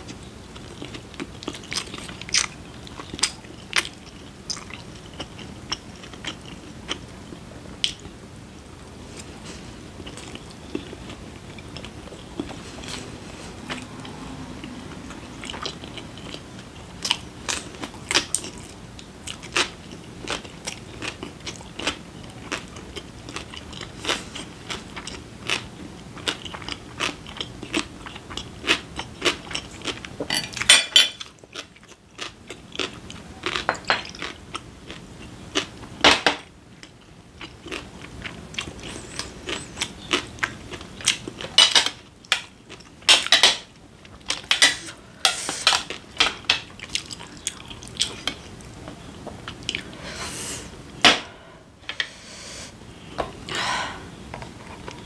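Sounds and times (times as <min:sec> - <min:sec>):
person chewing food: 0:00.0 - 0:08.2, 0:09.1 - 0:36.0, 0:36.8 - 0:55.0.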